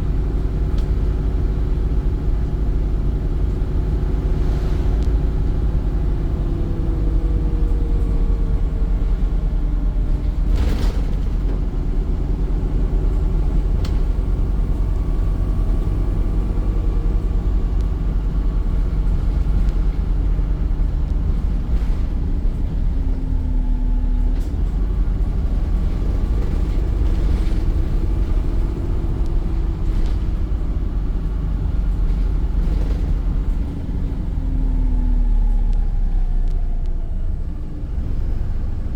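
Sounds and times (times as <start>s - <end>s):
bus engine rumble: 0.0s - 38.9s.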